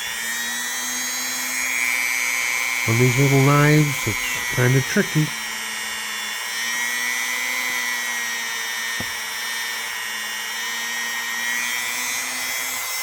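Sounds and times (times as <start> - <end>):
power tool whining: 0.0 - 13.0.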